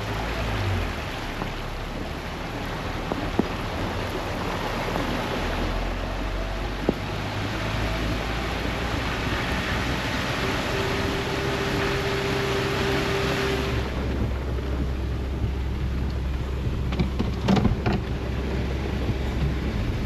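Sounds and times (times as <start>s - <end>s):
heavy rain: 0.0s - 20.0s
low vehicle rumble: 0.0s - 20.0s.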